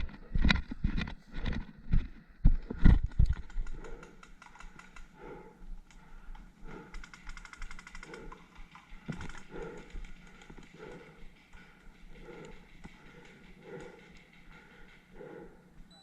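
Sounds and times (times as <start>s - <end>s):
gear clicking and rattling: 0.0s - 15.6s.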